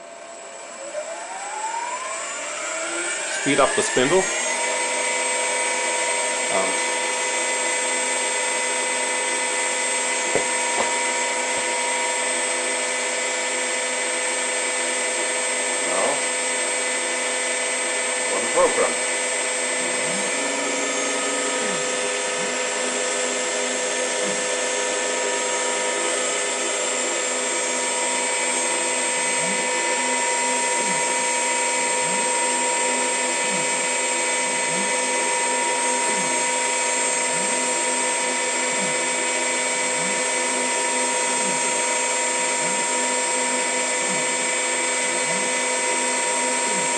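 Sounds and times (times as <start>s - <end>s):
lathe spindle motor whine: 0.0s - 46.9s.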